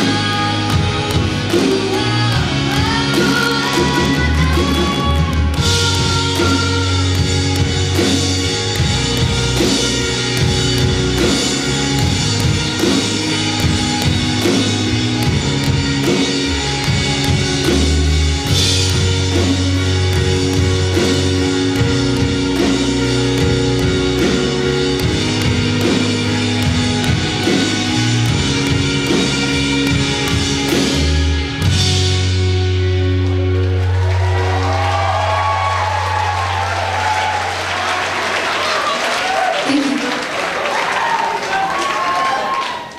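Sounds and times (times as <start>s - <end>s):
live rock band playing: 0.0s - 40.2s.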